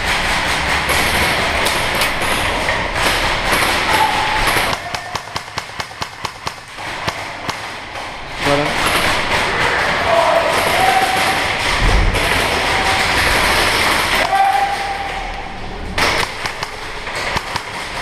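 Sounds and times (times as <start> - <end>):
quick sharp cracks: 3.0 - 18.0.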